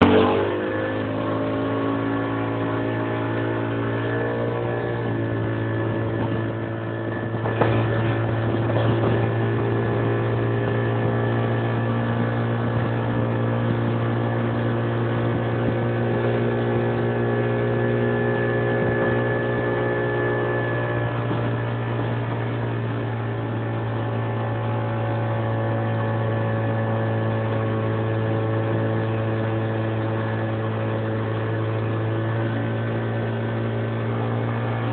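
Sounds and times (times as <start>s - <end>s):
motorboat engine running: 0.0s - 34.9s
rush of noise: 0.0s - 34.9s.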